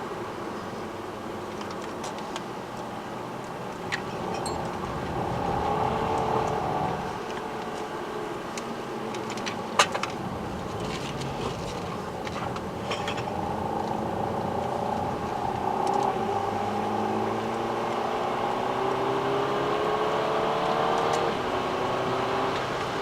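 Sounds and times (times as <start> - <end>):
car engine accelerating: 3.8 - 9.4, 10.0 - 23.0.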